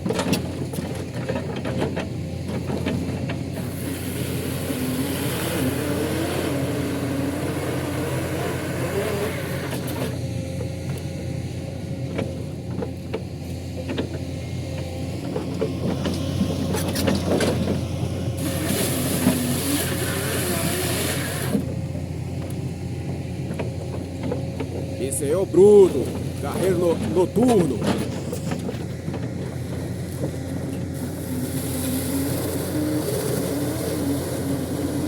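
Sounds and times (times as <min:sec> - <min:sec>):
diesel engine running: 0:00.1 - 0:35.0.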